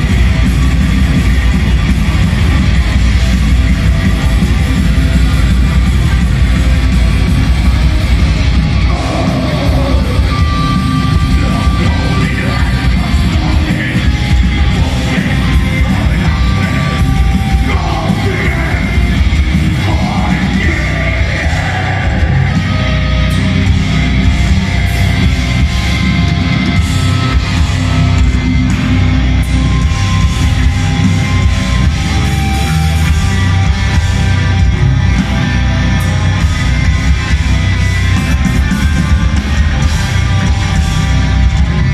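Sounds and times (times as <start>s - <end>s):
distorted electric guitars: 0.0s - 41.9s
drums: 0.0s - 41.9s
yelled vocals: 0.0s - 41.9s.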